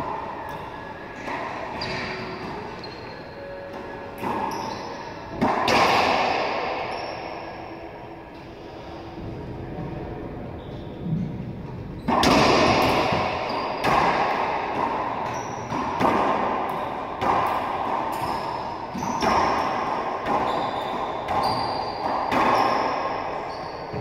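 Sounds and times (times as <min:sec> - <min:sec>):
racquetball hits echoing: 0:00.0 - 0:07.7, 0:12.0 - 0:24.0.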